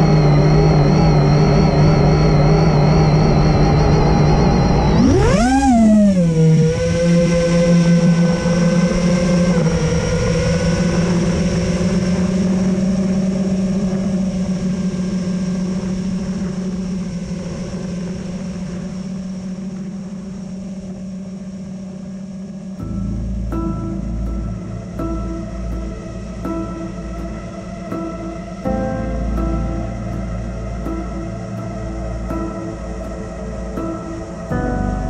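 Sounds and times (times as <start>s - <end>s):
drone propellers humming: 0.0s - 35.0s.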